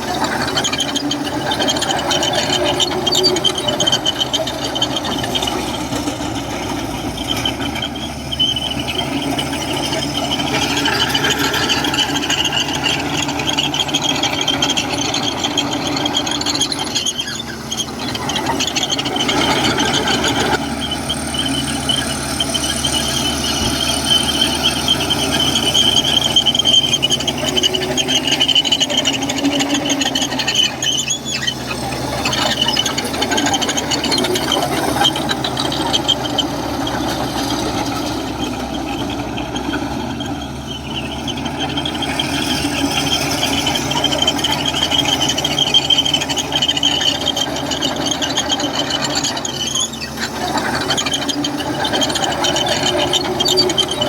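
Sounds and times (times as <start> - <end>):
diesel engine drone: 0.0 - 54.0
steel tracks squealing and clanking: 0.0 - 54.0.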